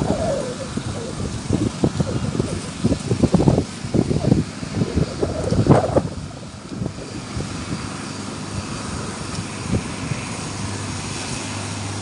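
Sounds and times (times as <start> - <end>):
engine hum with low drone: 0.0 - 12.0.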